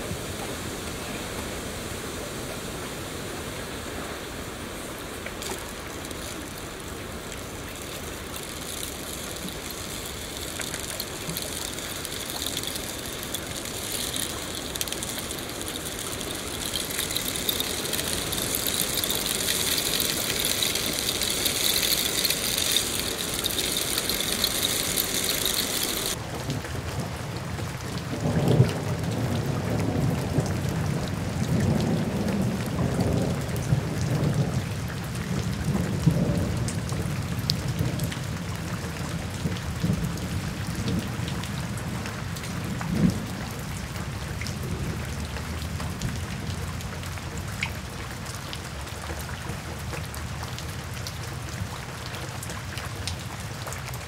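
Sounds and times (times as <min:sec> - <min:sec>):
heavy rain: 0:00.0 - 0:54.0
steady rainfall: 0:00.0 - 0:54.0.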